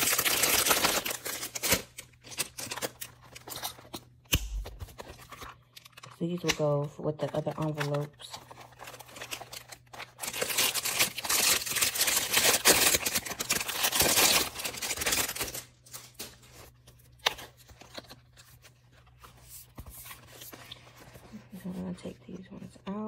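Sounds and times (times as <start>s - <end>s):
packaging rustling and crinkling: 0.0s - 22.1s.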